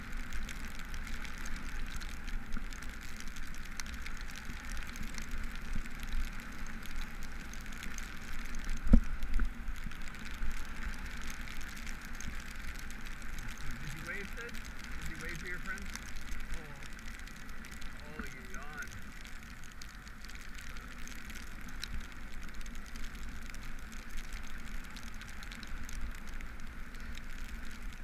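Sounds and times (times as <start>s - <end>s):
rain: 0.0s - 28.0s
tyre hiss on wet road: 0.0s - 28.0s.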